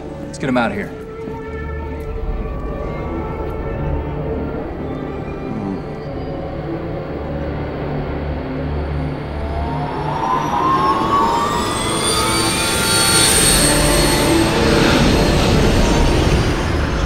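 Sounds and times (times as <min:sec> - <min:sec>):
deep rumble: 0:00.0 - 0:17.0
jet-like whine and rush: 0:00.0 - 0:17.0.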